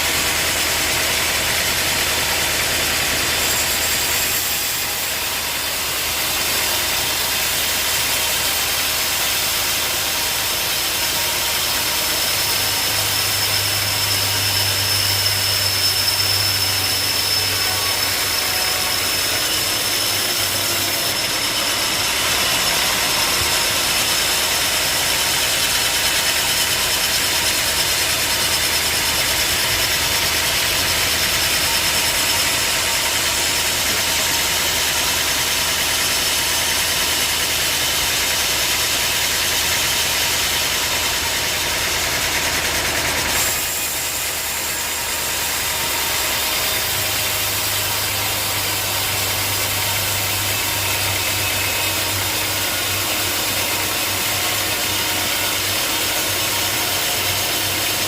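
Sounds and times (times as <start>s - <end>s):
saw hissing: 0.0s - 58.0s.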